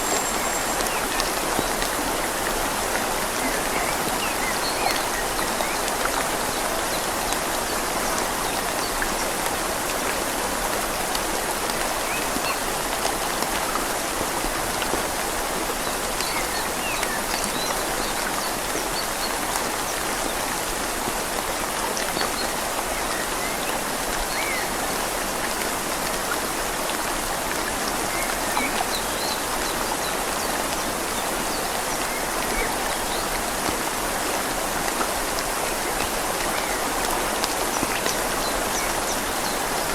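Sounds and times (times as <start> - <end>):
gently flowing river: 0.0 - 39.9
rain falling on leaves: 0.0 - 39.9.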